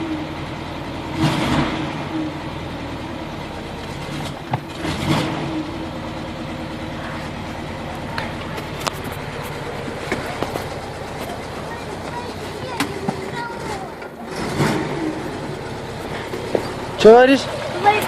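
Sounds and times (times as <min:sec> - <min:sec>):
car engine running and revving: 0:00.0 - 0:18.0.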